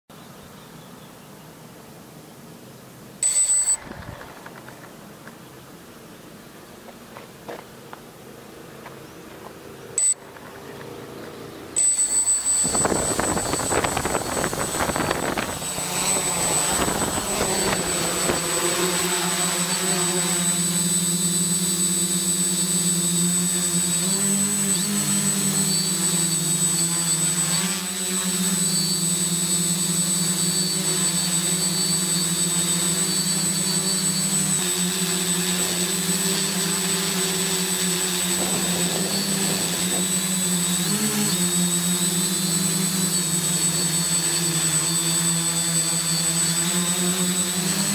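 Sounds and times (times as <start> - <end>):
quadcopter propellers buzzing: 3.2 - 5.4, 7.0 - 47.9.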